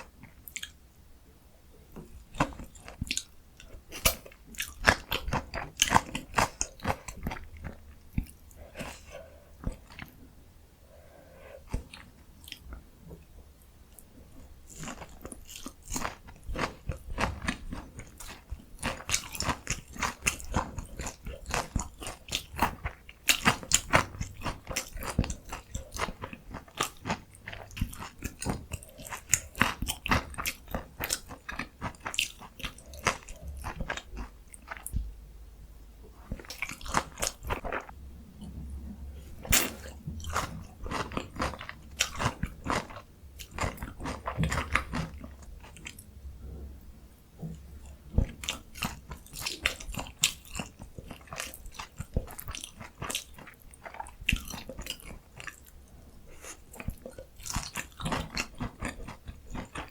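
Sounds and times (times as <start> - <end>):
crunching and chewing fried food: 1.9 - 10.2, 11.1 - 13.3, 13.9 - 35.0, 36.2 - 38.6, 39.2 - 46.1, 47.4 - 59.9.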